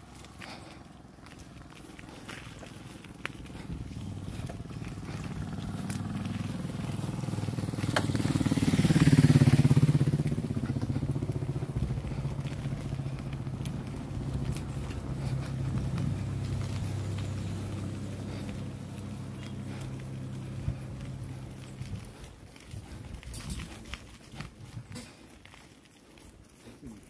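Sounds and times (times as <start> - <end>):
motorcycle engine passing: 0.0 - 25.2
tyres crunching on gravel: 0.0 - 27.0.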